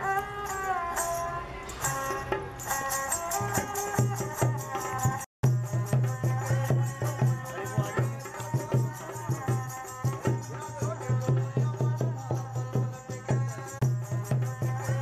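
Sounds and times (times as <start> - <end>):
percussion beat: 0.0 - 15.0.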